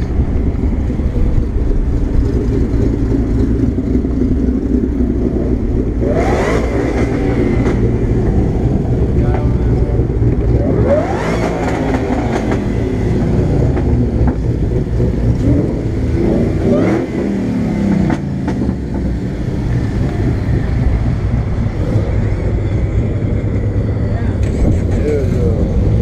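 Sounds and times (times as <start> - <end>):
car engines exhaust rumble: 0.0 - 26.0
engine revving: 0.0 - 26.0.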